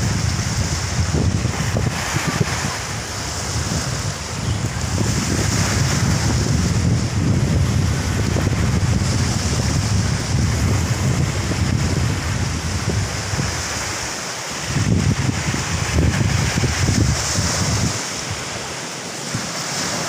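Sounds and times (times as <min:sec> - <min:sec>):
surf breaking on beach: 0:00.0 - 0:20.0
wind buffeting microphone: 0:00.0 - 0:20.0.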